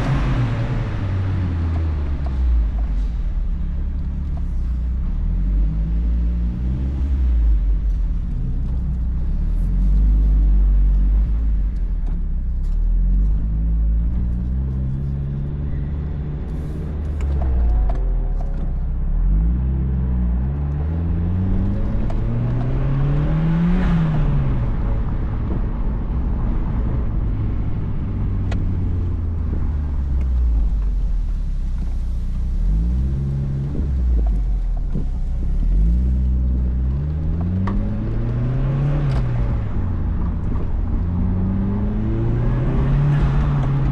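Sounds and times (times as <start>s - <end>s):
car engine revving while driving: 0.0s - 43.9s.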